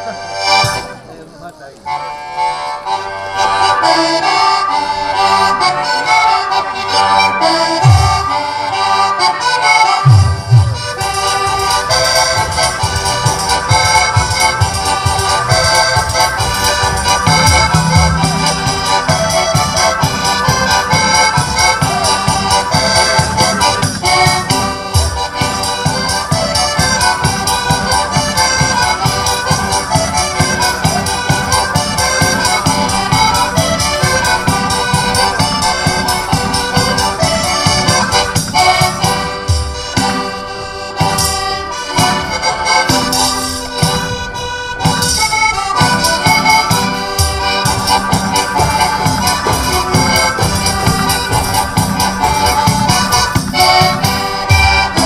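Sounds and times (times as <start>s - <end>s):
accordions playing folk dance tune: 0.0s - 55.0s.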